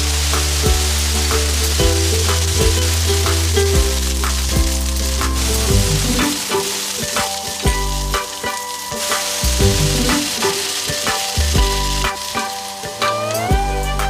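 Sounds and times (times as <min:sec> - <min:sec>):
background music: 0:00.0 - 0:14.0
cabbage sizzling in a wok: 0:00.0 - 0:14.0
wooden spatula stir-frying: 0:00.0 - 0:14.0.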